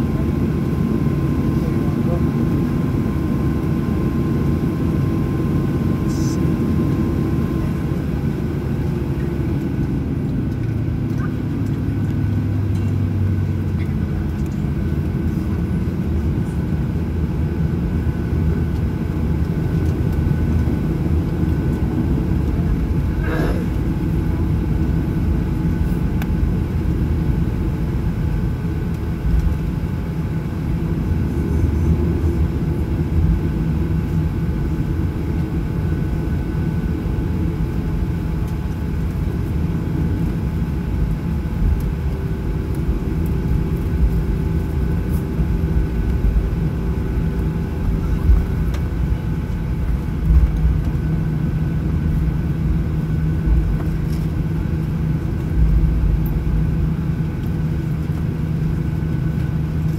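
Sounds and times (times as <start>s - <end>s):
jet engines idling: 0.0s - 59.9s.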